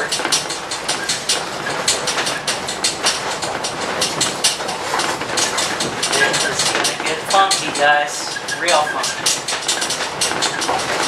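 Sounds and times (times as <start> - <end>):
rattling and banging contents: 0.0 - 11.0
road rumble: 0.0 - 11.0.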